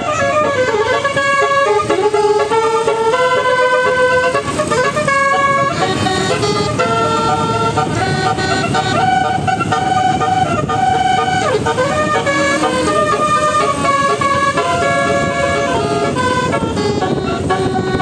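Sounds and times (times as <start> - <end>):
multi-trumpet bus horn tune: 0.0 - 18.0.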